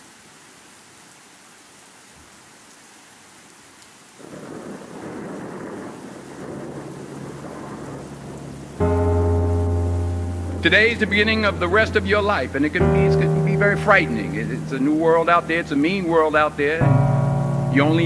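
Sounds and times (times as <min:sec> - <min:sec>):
rain-like hiss: 0:00.0 - 0:18.0.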